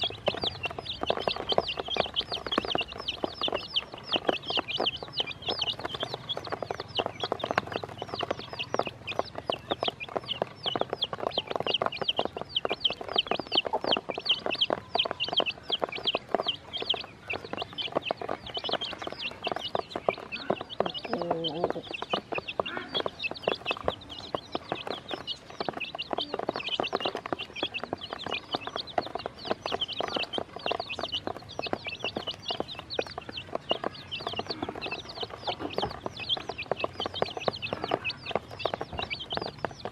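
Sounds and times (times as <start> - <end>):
baby chicks peeping: 0.0 - 39.9
beaks tapping on plastic: 0.0 - 39.9.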